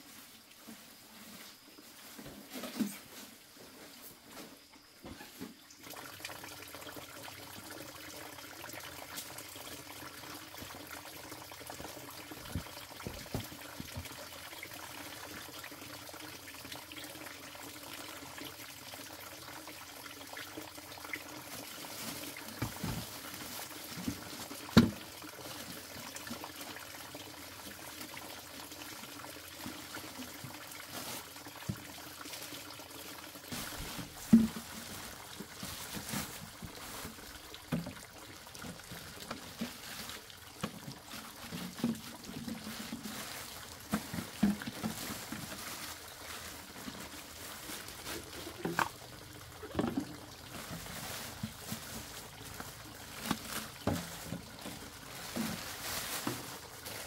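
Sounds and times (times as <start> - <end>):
running water trickling: 4.8 - 57.0.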